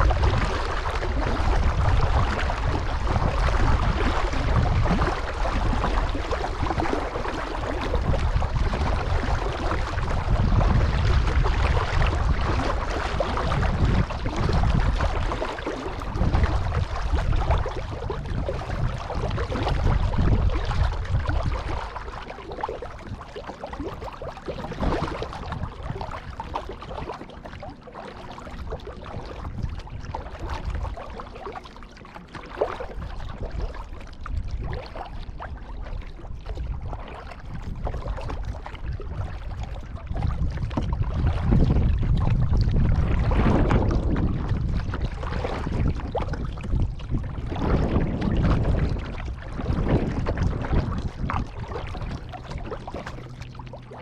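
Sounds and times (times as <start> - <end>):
low rumble: 0.0 - 23.3, 32.8 - 54.0
kayak paddle splashing water: 0.0 - 54.0.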